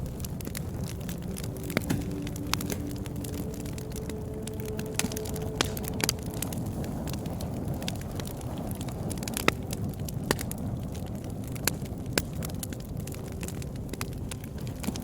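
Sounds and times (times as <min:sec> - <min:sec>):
bonfire burning: 0:00.0 - 0:15.0
wood crackling and popping: 0:00.0 - 0:15.0.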